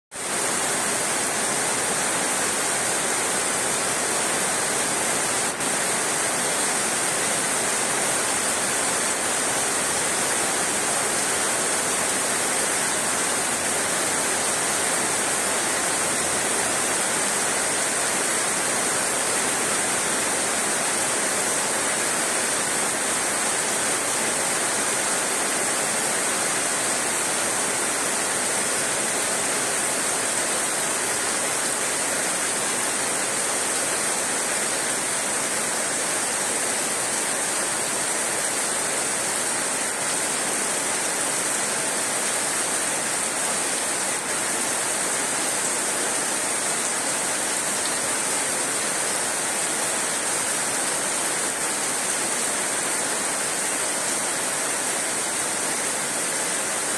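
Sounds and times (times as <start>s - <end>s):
heavy rain on leafy shrubs: 0.1s - 56.9s.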